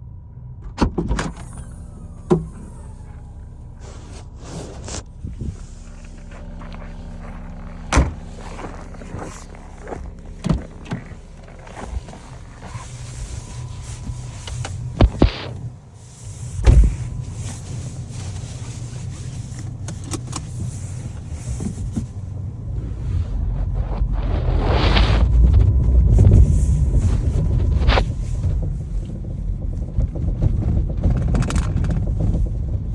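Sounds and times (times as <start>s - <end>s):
car running hum: 0.0s - 32.9s.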